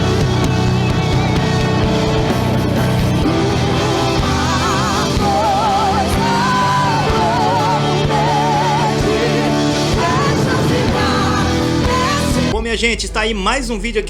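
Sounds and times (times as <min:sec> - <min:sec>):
live rock band music: 0:00.0 - 0:13.1.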